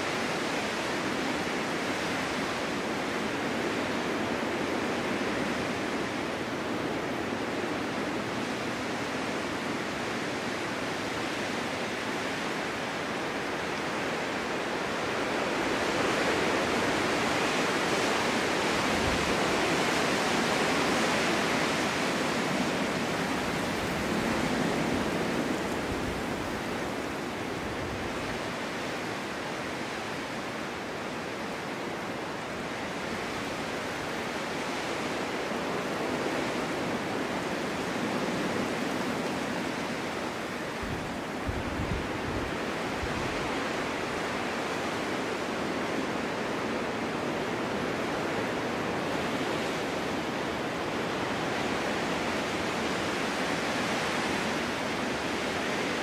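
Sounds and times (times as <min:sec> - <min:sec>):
snowstorm wind blowing: 0:00.0 - 0:56.0.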